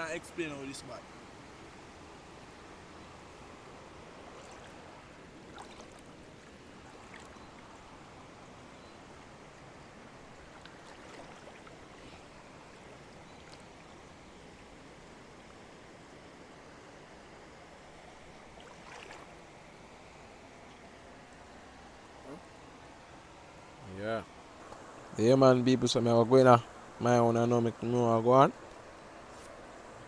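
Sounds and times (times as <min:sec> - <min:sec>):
river water flowing: 0:00.0 - 0:30.0.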